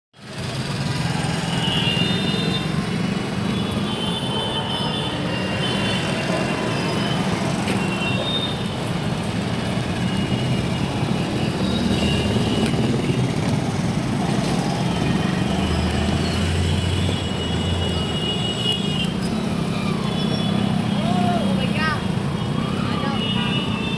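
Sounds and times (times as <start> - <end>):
low rumble of vehicle noise: 0.2 - 23.9.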